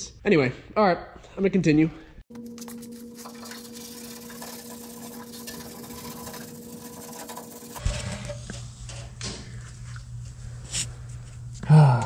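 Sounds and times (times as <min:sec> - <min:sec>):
electrical hum: 0:02.3 - 0:12.0.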